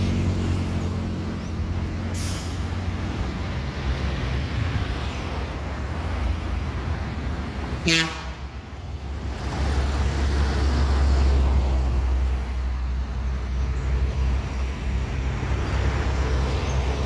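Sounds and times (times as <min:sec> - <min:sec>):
road traffic rumble: 0:00.0 - 0:17.0
vehicle passing: 0:00.0 - 0:17.0.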